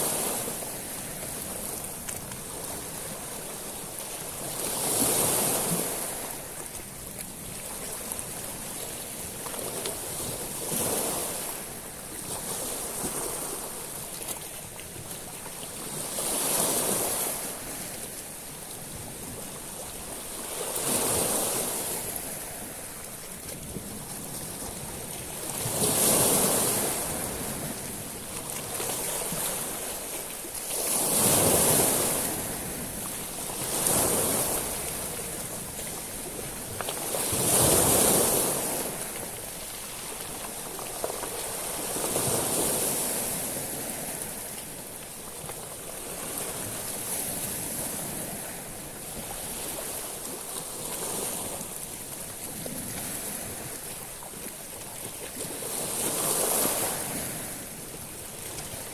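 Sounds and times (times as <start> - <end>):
waves washing over pebbles: 0.0 - 58.9.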